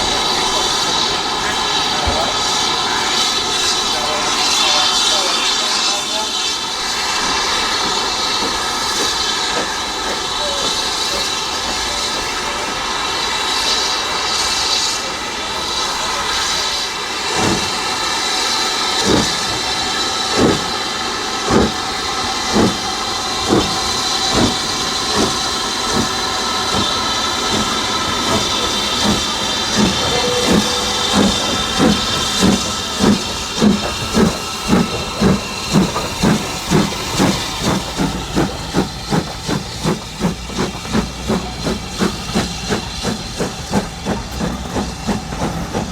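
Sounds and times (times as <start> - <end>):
locomotive exhaust beats: 0.0 - 45.9
steam locomotive hissing steam: 0.0 - 45.9.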